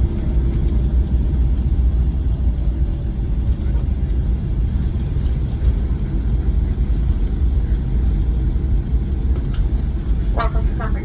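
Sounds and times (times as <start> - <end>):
low rumble of engines and wheels: 0.0 - 11.0.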